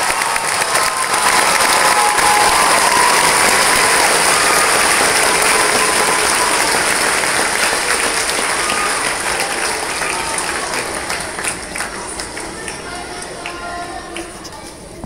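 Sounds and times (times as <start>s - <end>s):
large audience applauding: 0.0s - 14.4s.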